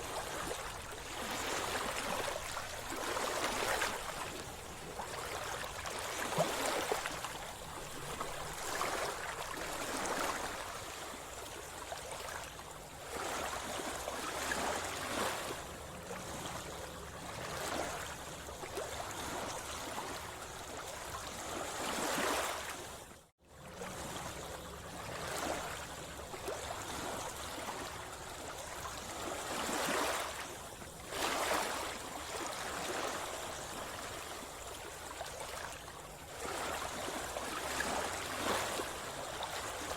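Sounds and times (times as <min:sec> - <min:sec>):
sea water sloshing and splashing: 0:00.0 - 0:39.9.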